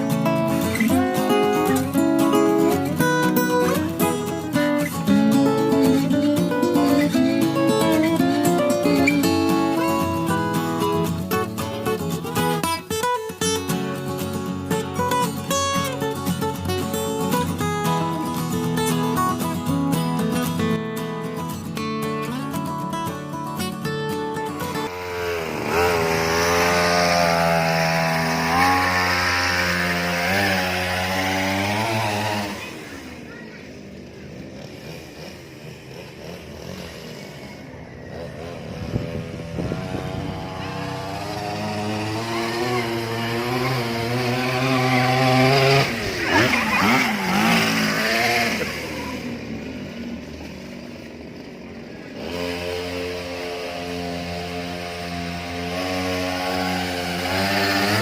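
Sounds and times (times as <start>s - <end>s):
small engine running under load: 0.0s - 58.0s.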